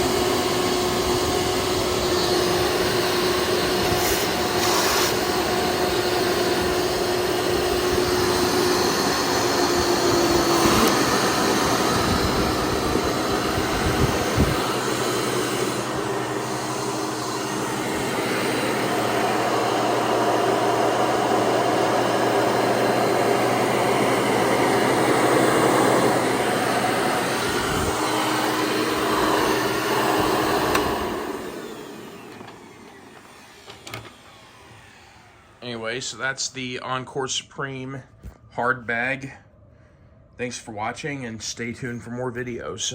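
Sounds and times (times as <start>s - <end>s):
upright vacuum cleaner running: 0.0s - 36.5s.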